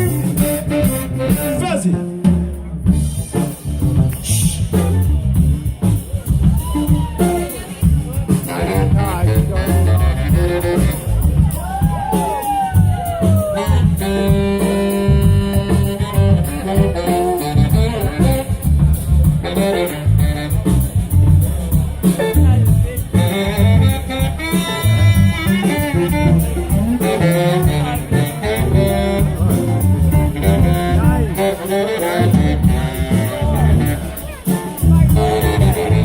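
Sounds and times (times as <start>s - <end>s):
wind instrument solo: 0.0s - 2.2s, 6.4s - 21.4s, 22.2s - 36.0s
live blues band playing: 0.0s - 36.0s.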